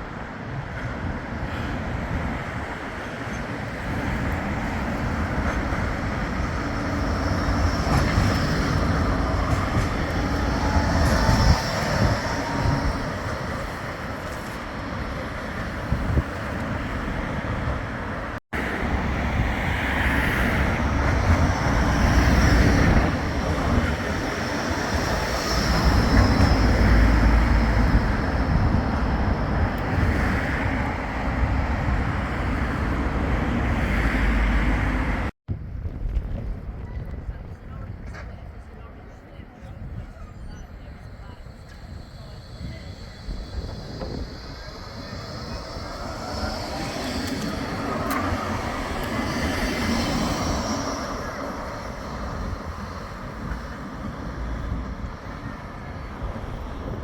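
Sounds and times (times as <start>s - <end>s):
tram high whine: 0.0s - 57.0s
tram rumbling on track: 0.0s - 57.0s.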